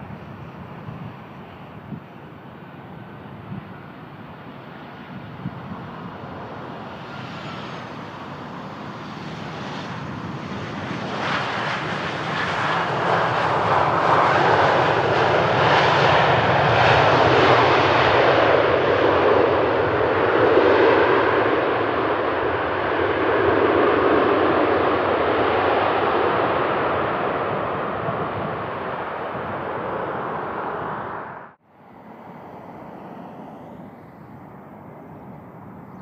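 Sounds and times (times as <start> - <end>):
jet airliner engine roar: 0.0 - 36.0.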